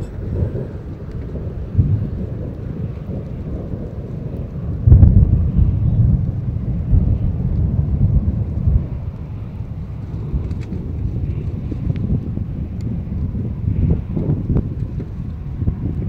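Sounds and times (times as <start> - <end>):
thunder rumbling: 0.0 - 16.0
wind on microphone: 0.0 - 16.0.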